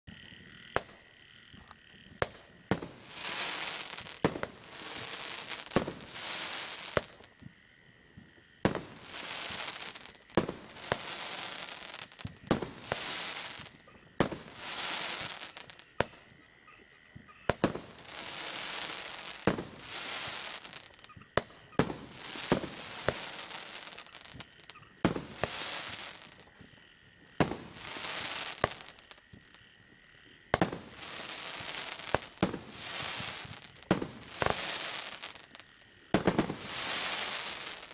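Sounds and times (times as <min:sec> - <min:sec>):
hissing of bursting stars: 0:02.3 - 0:07.3, 0:08.6 - 0:16.3, 0:17.5 - 0:26.5, 0:27.4 - 0:29.2, 0:30.6 - 0:37.9.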